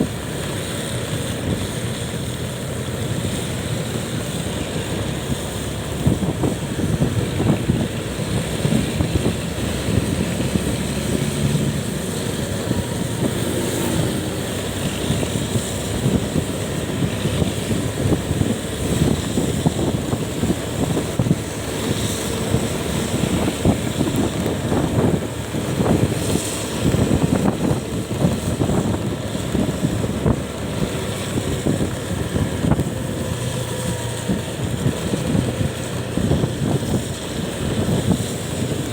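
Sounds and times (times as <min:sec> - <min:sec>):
vehicle and road noise: 0:00.0 - 0:38.9
wind buffeting microphone: 0:00.0 - 0:38.9.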